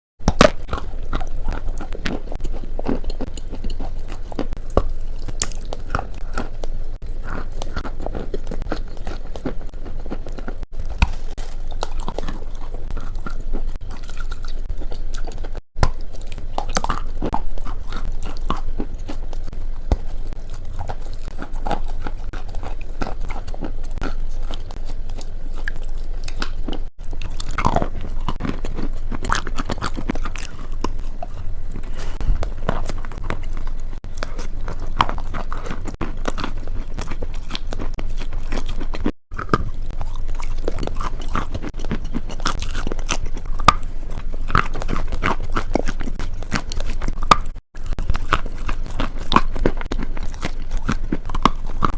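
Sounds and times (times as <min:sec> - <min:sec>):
low background hum: 0:00.2 - 0:51.9
person chewing crunchy food: 0:00.2 - 0:51.9.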